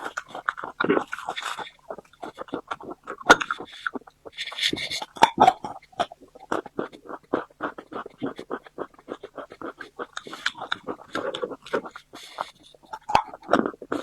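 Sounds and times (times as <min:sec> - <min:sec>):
chewing mouth noises: 0:00.0 - 0:14.0.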